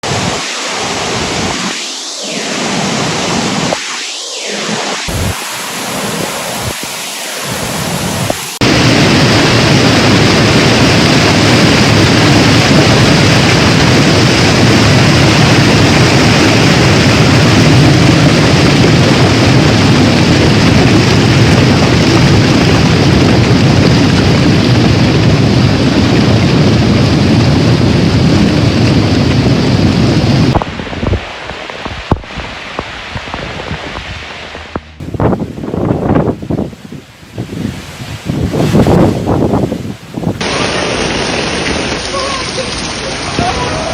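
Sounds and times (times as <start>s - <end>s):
heavy rain: 0.0s - 3.8s, 4.6s - 43.9s
strong wind: 0.0s - 43.9s
wind rumble on microphone: 5.1s - 43.9s.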